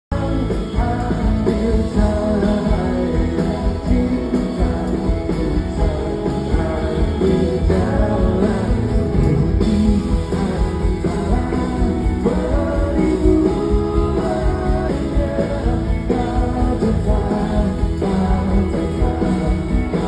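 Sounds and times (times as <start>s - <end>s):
man singing lead vocal: 0.0s - 20.0s
pop rock band playing: 0.1s - 20.0s.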